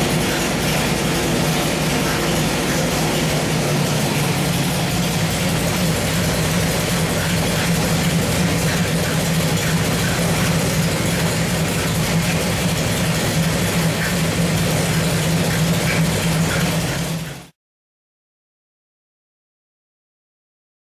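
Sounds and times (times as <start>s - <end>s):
engine droning steadily: 0.0s - 17.6s.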